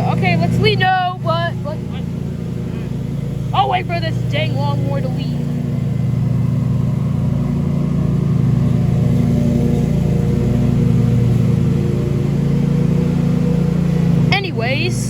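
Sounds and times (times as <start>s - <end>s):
lawnmower engine running: 0.0s - 15.0s.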